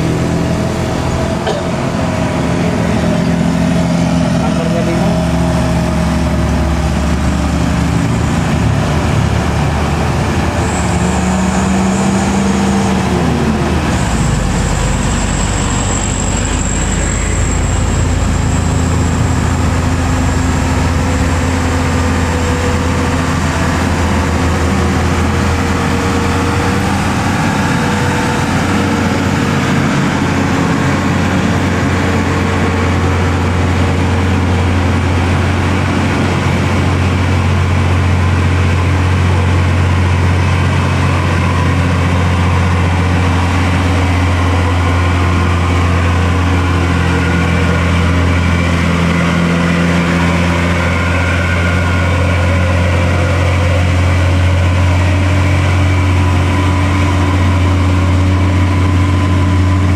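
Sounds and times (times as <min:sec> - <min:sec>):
heavy diesel trucks crawling uphill: 0:00.0 - 0:59.9.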